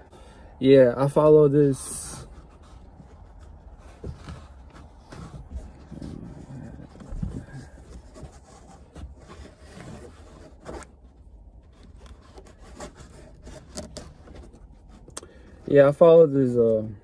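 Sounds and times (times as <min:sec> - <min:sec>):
hands rubbing on car trim: 0:01.1 - 0:16.6.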